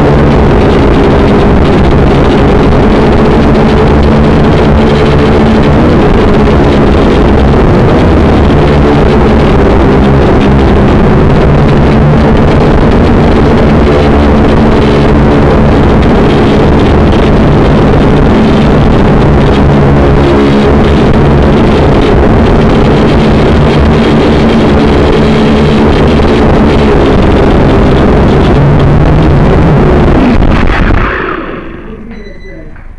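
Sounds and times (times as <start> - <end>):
drone propellers buzzing: 0.0 - 32.5.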